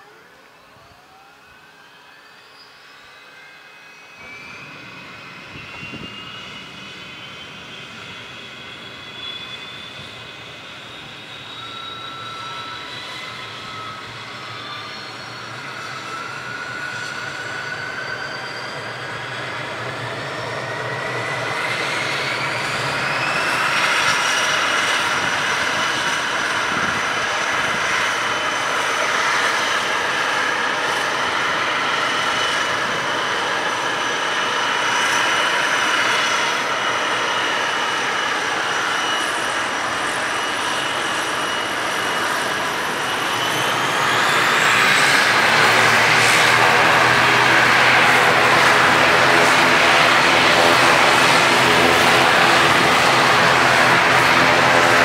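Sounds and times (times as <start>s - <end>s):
turboprop engine whine: 0.0s - 55.0s.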